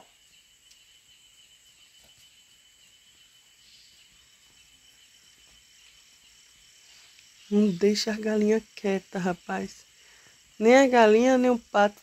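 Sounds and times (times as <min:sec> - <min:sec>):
faint pulsing chirp: 0:00.0 - 0:12.0
high-pitched insect drone: 0:00.0 - 0:12.0.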